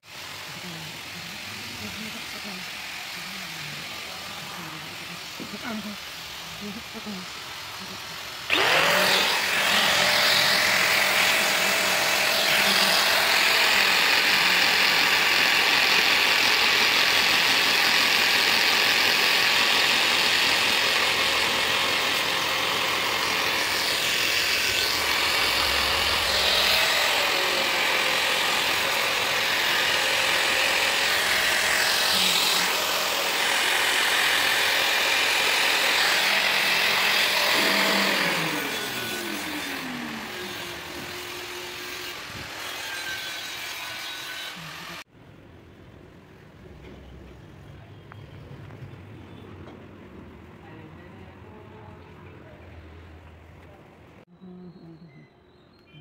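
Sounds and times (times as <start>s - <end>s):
angle grinder grinding metal: 0.0s - 45.1s.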